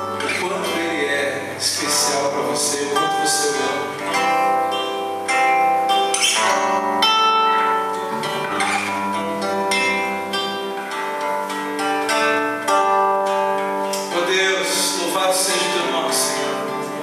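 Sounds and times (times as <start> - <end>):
instrumental worship music: 0.0 - 17.0
plucked guitar chords: 0.0 - 17.0.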